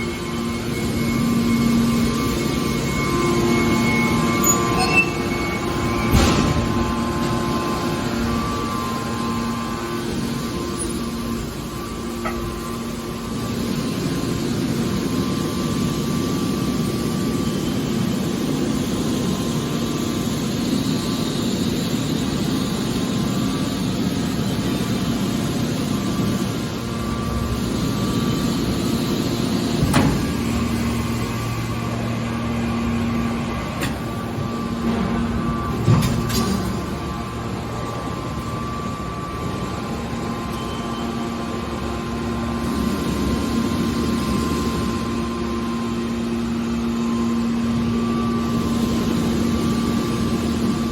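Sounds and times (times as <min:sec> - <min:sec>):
hydraulic power unit hum: 0:00.0 - 0:50.9.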